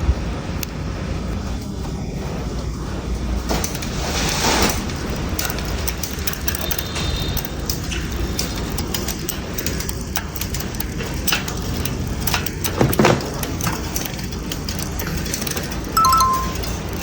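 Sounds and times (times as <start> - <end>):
bicycle rumble with clicks: 0.0 - 16.0.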